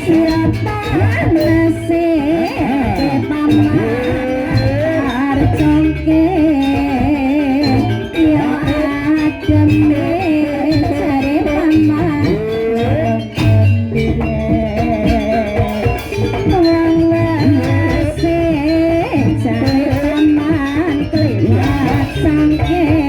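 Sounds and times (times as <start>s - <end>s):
live band music: 0.0s - 22.6s.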